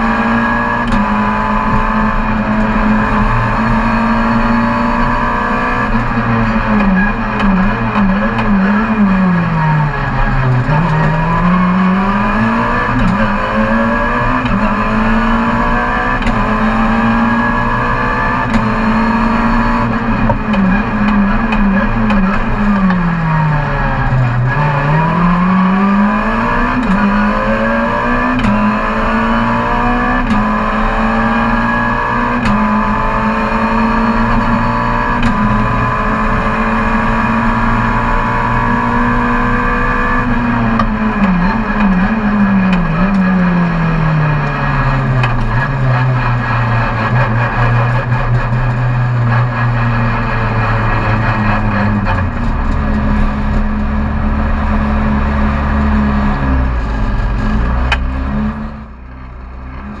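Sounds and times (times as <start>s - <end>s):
car engine from inside: 0.0s - 60.0s.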